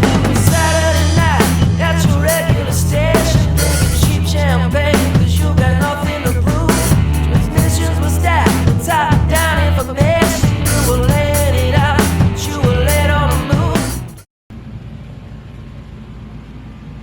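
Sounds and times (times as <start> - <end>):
person singing: 0.0 - 14.2
bass: 0.0 - 14.3
drums: 0.0 - 14.3
rock song: 0.0 - 14.3.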